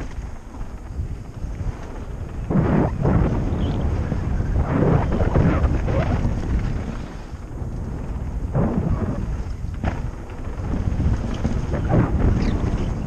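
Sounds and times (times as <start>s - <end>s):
bike tyres rolling on dirt: 0.0s - 13.0s
wind buffeting microphone: 0.0s - 13.0s.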